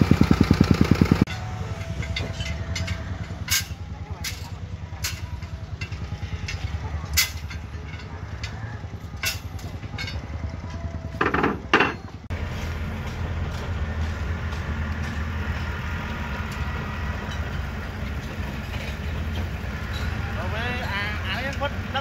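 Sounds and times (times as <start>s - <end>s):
engine humming: 0.0s - 22.0s
metallic clanks on steel rebar: 1.2s - 12.3s, 13.1s - 22.0s.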